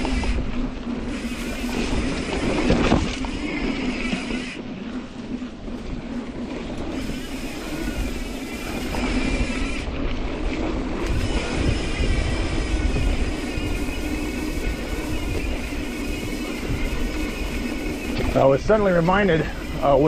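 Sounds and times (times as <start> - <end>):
bike tyre and frame rattle: 0.0 - 20.0
wind on microphone: 0.0 - 20.0.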